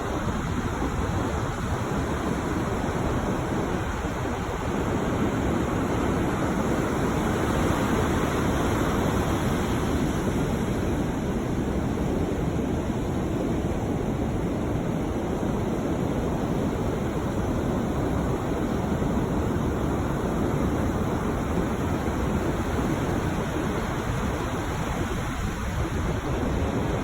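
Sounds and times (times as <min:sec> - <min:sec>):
ocean surf washing onto beach: 0:00.0 - 0:27.0.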